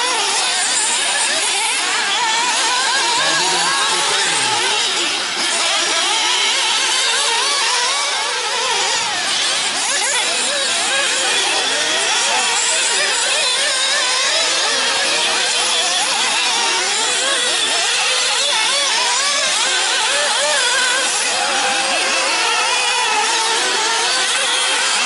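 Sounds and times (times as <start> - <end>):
rc car engines whining: 0.0 - 25.0.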